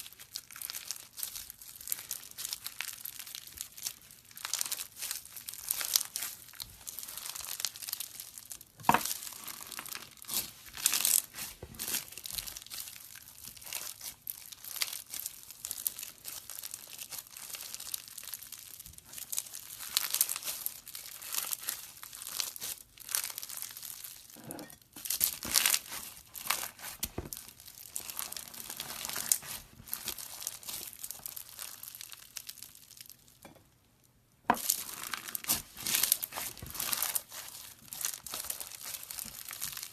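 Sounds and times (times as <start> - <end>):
slime squished by hand: 0.1 - 24.4, 25.0 - 32.9, 34.6 - 39.9.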